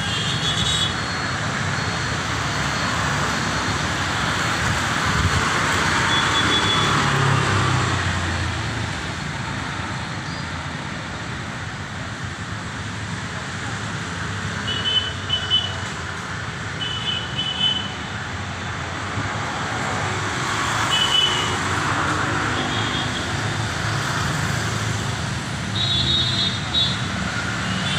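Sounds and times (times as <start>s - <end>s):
road traffic: 0.0s - 27.9s.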